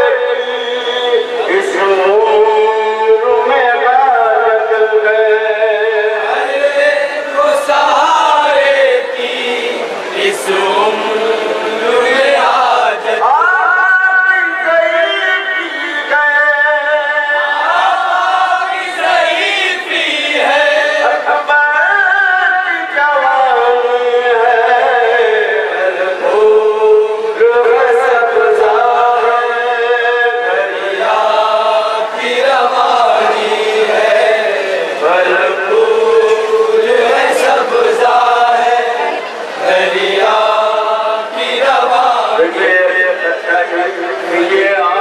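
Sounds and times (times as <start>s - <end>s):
man chanting into a microphone: 0.0s - 45.0s.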